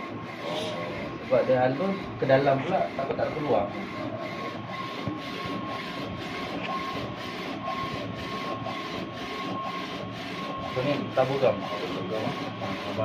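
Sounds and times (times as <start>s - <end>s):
printer whirring: 0.0s - 13.0s.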